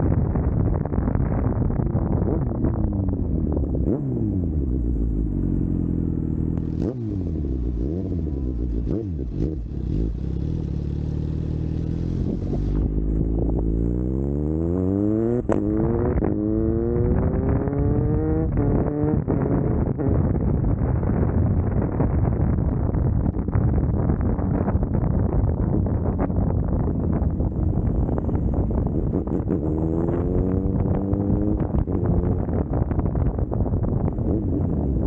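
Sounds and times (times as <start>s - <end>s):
motorcycle engine revving: 2.1s - 22.6s, 24.0s - 35.0s.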